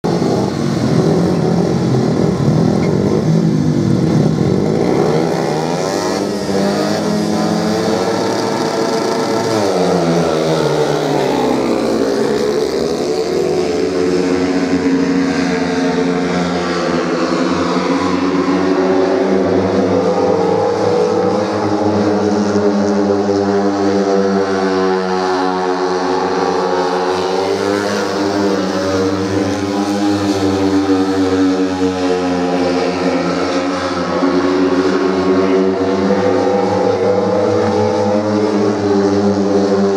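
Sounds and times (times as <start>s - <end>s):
motorcycles racing: 0.0s - 39.9s.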